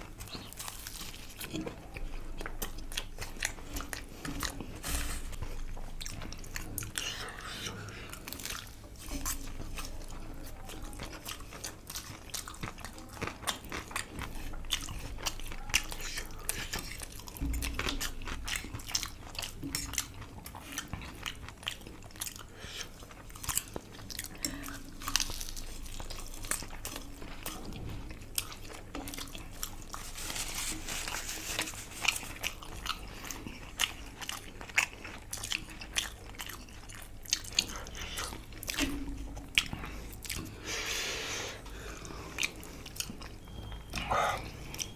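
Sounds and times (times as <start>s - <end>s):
chewing and crunching: 0.0s - 44.9s.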